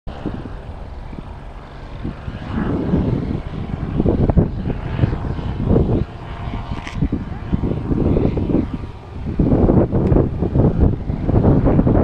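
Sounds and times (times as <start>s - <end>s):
distant paramotor engine droning: 0.1s - 12.0s
wind buffeting microphone: 0.1s - 12.0s.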